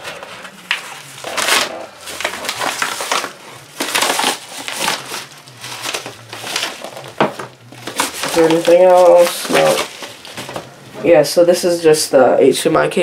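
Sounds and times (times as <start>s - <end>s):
knife slitting paper envelope: 0.0s - 10.7s
envelope rustling: 0.0s - 10.9s.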